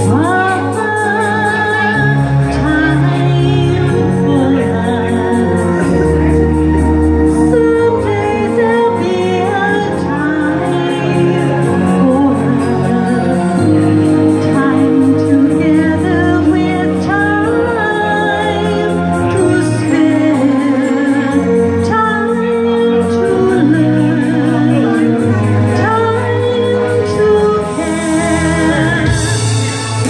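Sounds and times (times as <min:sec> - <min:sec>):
woman singing into microphone: 0:00.0 - 0:29.7
backing track over loudspeakers: 0:00.0 - 0:30.0.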